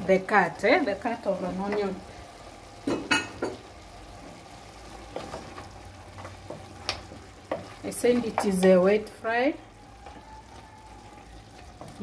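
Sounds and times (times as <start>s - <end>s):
wooden spoon stirring in pot: 0.0s - 2.8s, 3.4s - 12.0s
low sizzle of frying: 0.0s - 12.0s.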